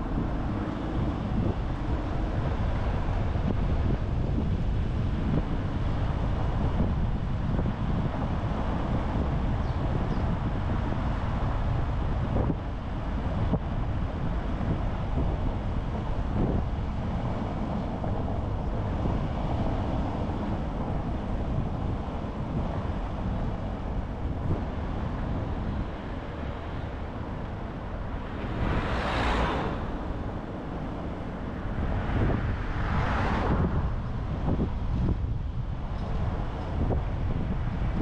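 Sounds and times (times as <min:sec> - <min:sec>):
car road and wind noise: 0:00.0 - 0:38.0
passing traffic whooshes: 0:00.0 - 0:38.0.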